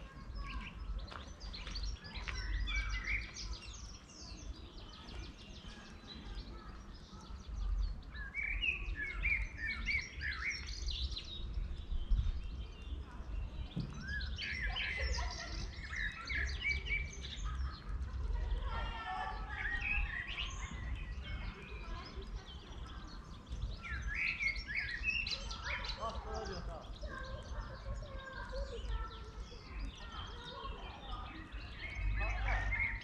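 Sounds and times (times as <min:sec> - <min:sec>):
bird chirps and trills: 0:00.0 - 0:33.0
songbirds singing: 0:00.0 - 0:33.0.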